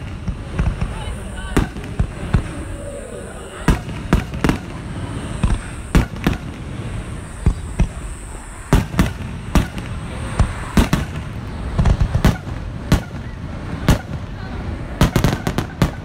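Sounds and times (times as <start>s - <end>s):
firework shells booming: 0.0s - 16.0s.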